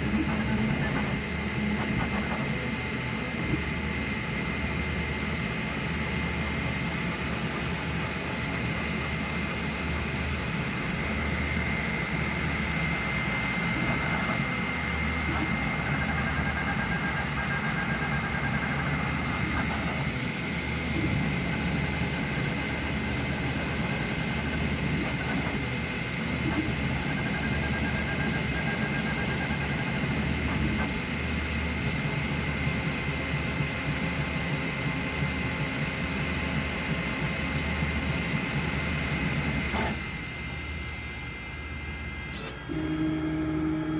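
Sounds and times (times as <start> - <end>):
cooling fans whirring: 0.0 - 43.9.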